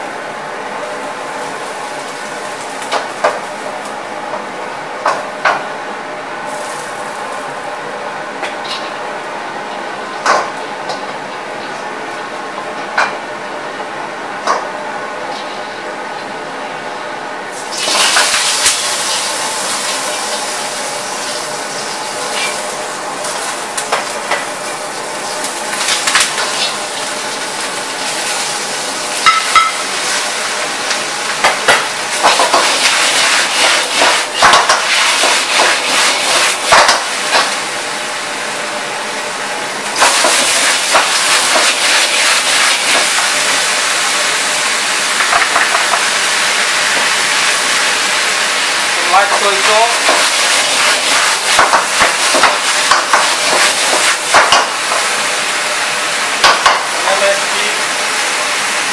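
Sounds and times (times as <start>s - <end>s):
wok sizzling: 0.0s - 9.2s, 17.5s - 58.9s.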